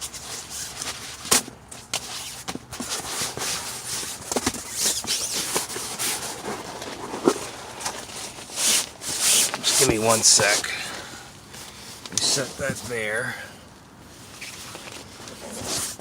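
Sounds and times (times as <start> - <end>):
rustling sleeping pad handling: 0.0 - 13.3, 14.0 - 16.0.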